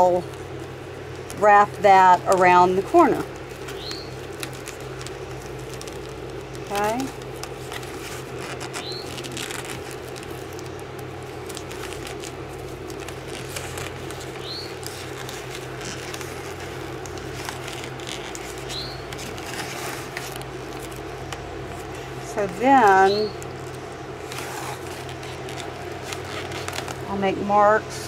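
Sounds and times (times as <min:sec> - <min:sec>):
foil insulation sheet crinkling: 0:00.0 - 0:28.0
steady low hum: 0:00.0 - 0:28.0.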